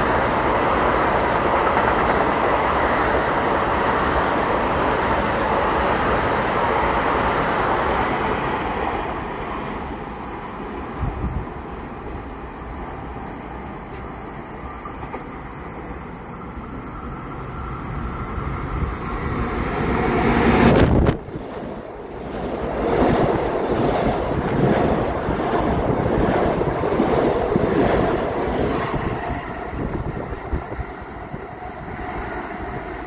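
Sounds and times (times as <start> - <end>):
train wheels rushing on rail: 0.0 - 33.0.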